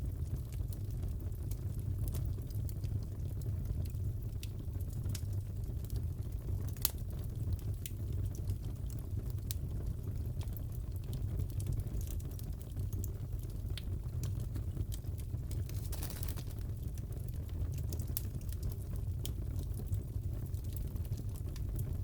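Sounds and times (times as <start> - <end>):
fire pops and crackles: 0.0 - 22.0
wood fire rumbling: 0.0 - 22.0.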